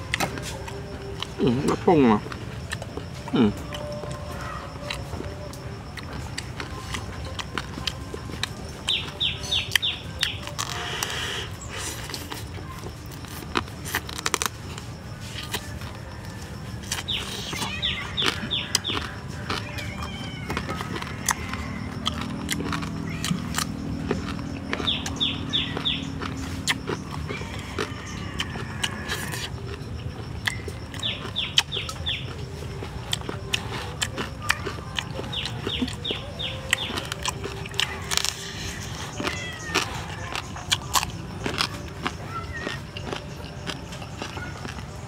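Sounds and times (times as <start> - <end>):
birds chirping: 0.0 - 45.0
chewing and crunching: 0.0 - 45.0.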